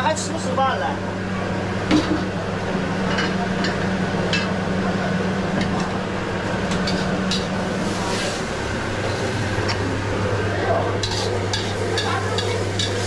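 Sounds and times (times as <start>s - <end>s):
stove and kitchen fan humming: 0.0s - 13.0s.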